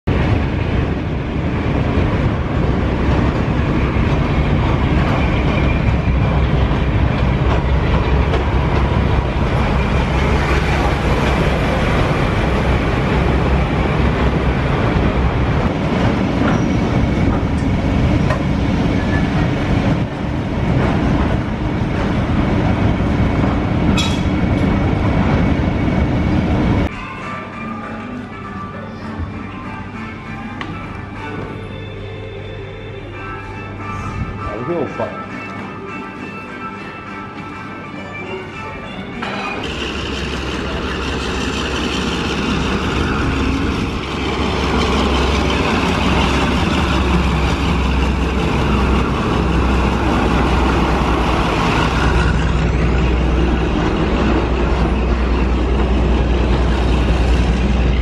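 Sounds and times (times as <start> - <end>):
train wheels rumbling on track: 0.1 - 26.9, 35.4 - 58.0.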